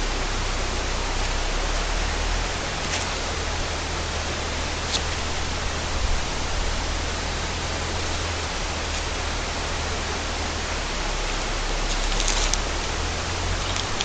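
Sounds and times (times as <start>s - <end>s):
low rumble: 0.0s - 14.0s
steady hiss: 0.0s - 14.0s.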